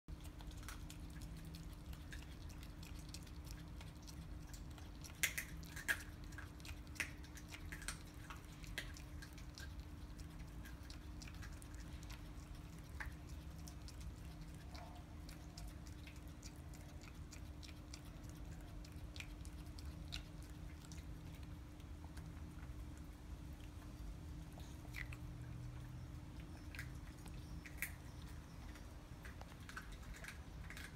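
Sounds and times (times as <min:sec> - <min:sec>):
dogs chewing bones: 0:00.1 - 0:30.9
steady low hum: 0:00.1 - 0:30.9.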